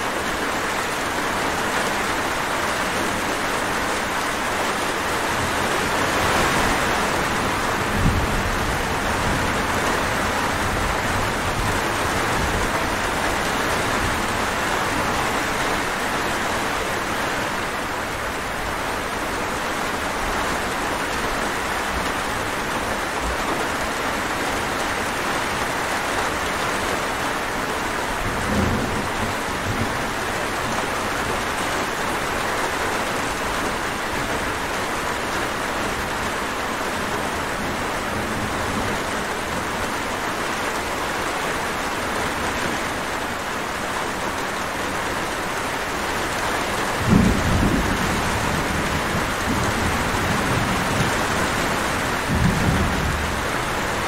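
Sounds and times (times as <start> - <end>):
dense rainfall: 0.0 - 54.0.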